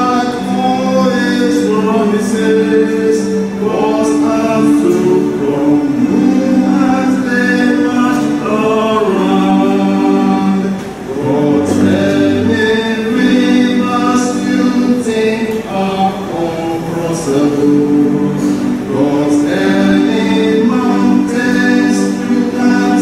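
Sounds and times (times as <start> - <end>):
unaccompanied hymn singing: 0.0 - 23.0.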